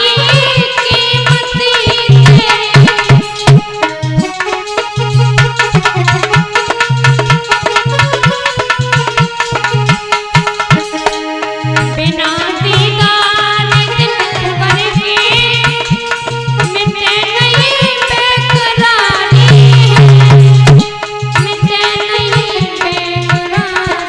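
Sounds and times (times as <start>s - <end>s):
hand drum beat: 0.0s - 24.0s.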